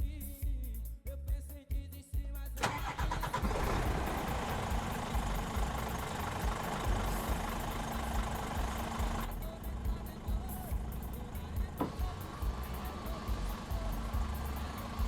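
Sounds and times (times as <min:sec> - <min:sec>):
background music with steady beat: 0:00.0 - 0:15.0
diesel truck engine running: 0:02.6 - 0:15.0.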